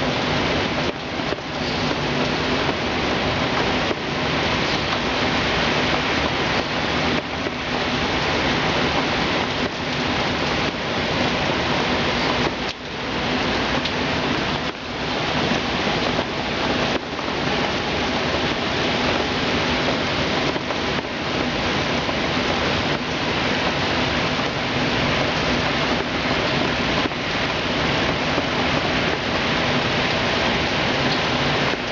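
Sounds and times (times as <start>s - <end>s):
heavy rain and wind: 0.0s - 31.9s.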